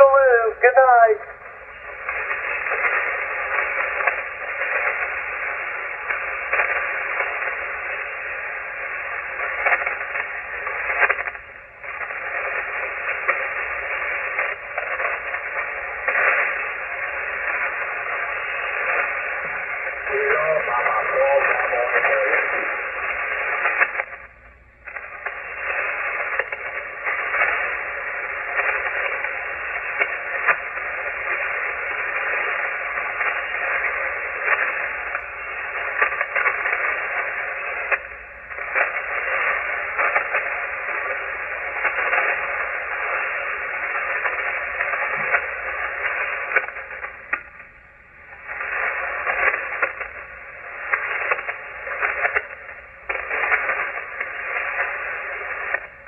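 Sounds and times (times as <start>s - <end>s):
radio band noise hiss: 0.0s - 56.0s
static crackles: 0.0s - 56.0s.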